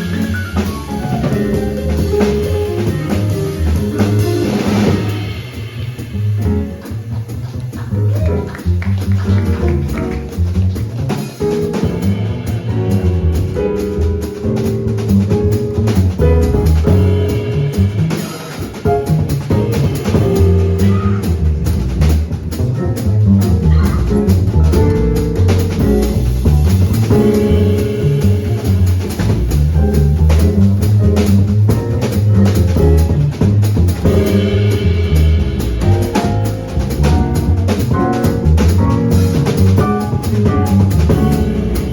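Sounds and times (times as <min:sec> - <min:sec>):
double bass: 0:00.0 - 0:41.9
drum kit: 0:00.0 - 0:41.9
small-group jazz: 0:00.0 - 0:41.9.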